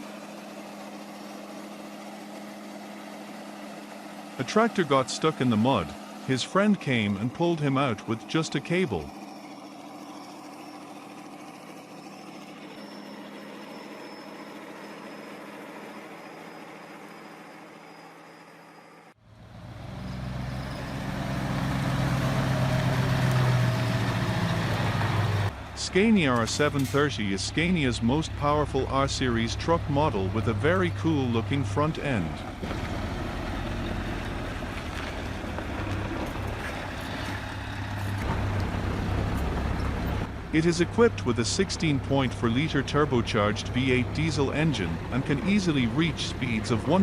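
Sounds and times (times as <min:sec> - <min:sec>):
engine with deep hum: 0:00.0 - 0:47.0
heavy vehicle engine running: 0:00.0 - 0:47.0.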